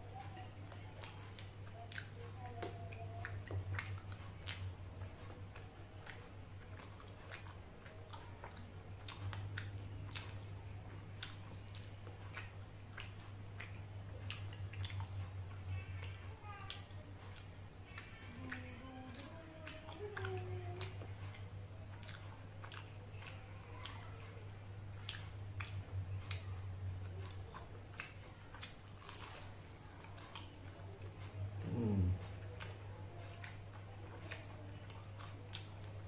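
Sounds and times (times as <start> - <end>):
person chewing food: 0.0 - 36.0
steady low hum: 0.0 - 36.0.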